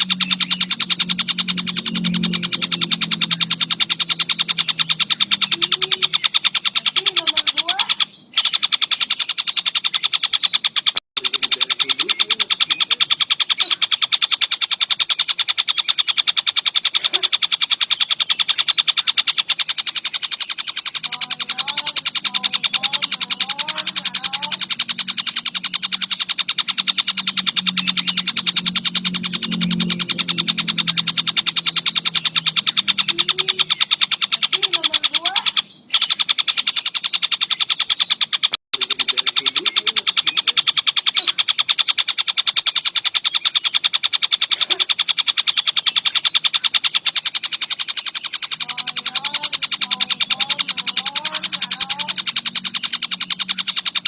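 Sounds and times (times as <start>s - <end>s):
kingfisher rapid chattering call: 0.0s - 54.0s.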